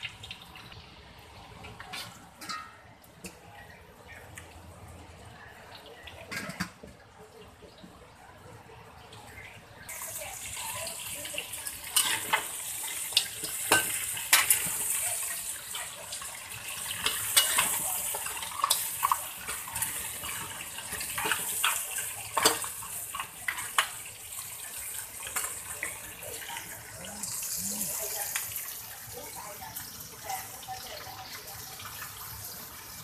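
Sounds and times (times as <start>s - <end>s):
food sizzling in hot oil: 0.0s - 4.7s, 9.1s - 33.0s.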